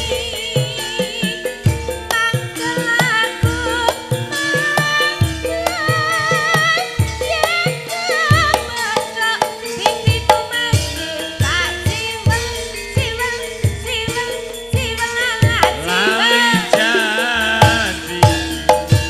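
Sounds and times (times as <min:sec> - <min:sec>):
drum strokes: 0:00.0 - 0:19.0
sustained metal gamelan tones: 0:00.0 - 0:19.0
woman singing: 0:00.0 - 0:19.0.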